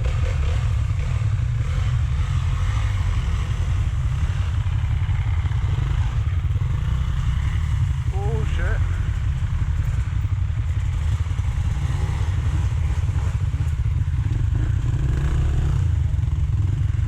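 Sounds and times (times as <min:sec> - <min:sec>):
dirt bike engine rumbling: 0:00.0 - 0:17.0.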